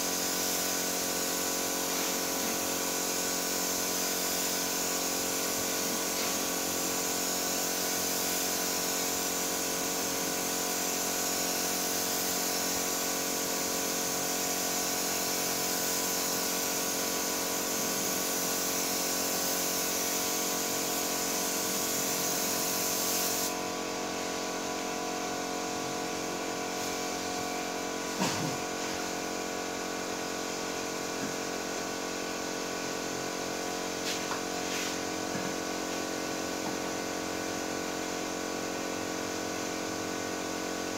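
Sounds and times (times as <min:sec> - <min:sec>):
spray gun hissing: 0:00.0 - 0:40.8.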